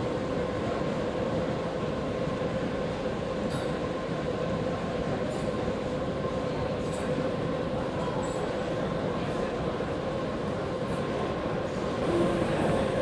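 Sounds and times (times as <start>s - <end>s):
exhibition hall din: 0.0s - 13.0s
steady hum: 0.0s - 13.0s.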